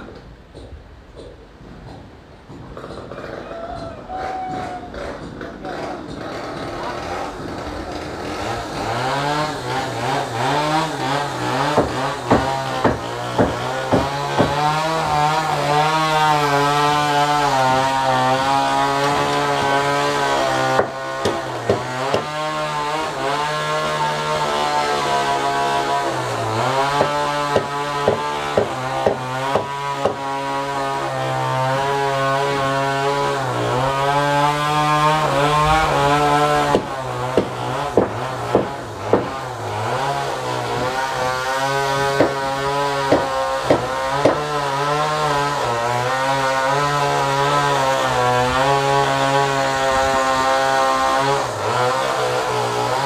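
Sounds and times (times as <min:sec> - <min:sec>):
hand tool chopping wood: 0:00.1 - 0:53.0.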